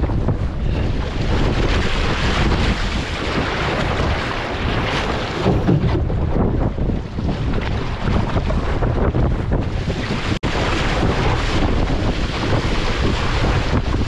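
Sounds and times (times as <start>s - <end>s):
strong wind on microphone: 0.0s - 14.0s.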